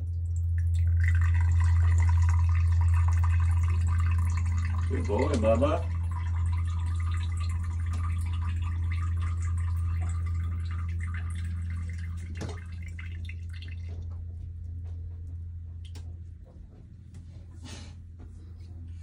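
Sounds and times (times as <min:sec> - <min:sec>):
liquid dripping into toilet bowl: 0:00.0 - 0:15.0, 0:15.8 - 0:16.3
steady low hum: 0:00.0 - 0:19.0.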